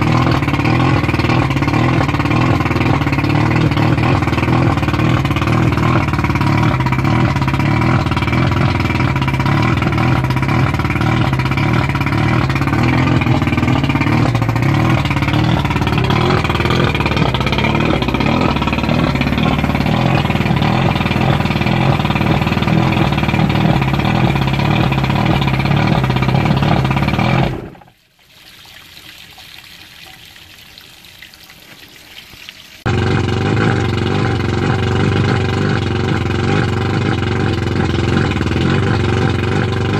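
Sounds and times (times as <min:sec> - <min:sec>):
outboard motor idling fast: 0:00.0 - 0:27.9, 0:32.8 - 0:39.9.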